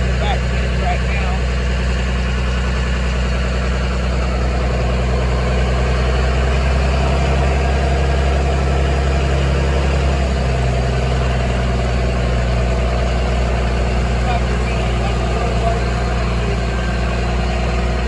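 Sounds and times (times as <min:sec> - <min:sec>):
vehicle engine running at low revs: 0:00.0 - 0:18.0.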